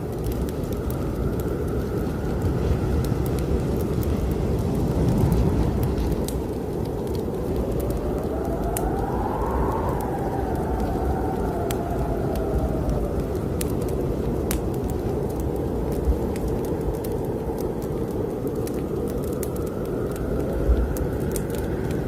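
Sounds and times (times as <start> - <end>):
fireplace fire crackling: 0.0 - 22.0
howling blizzard wind: 0.0 - 22.0.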